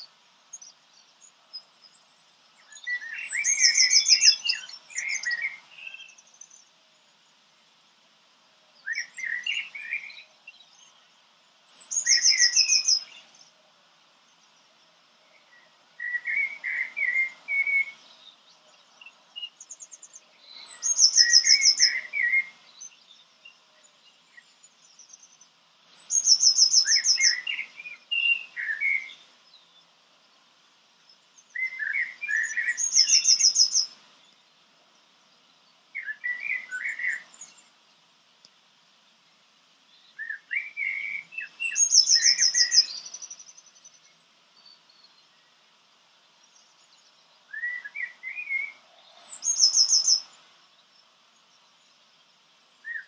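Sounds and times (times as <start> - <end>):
songbird singing with trills: 0.0 - 7.4, 8.7 - 38.6, 39.8 - 53.0.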